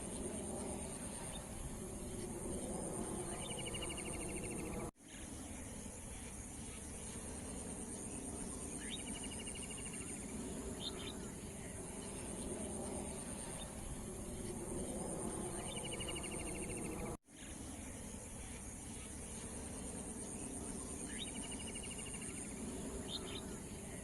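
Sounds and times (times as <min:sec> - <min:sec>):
pulsing insect chorus: 0:00.0 - 0:24.0.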